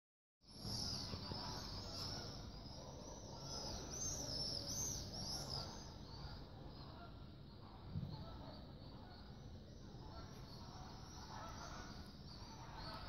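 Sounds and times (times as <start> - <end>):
small birds chirping: 0.4 - 13.0.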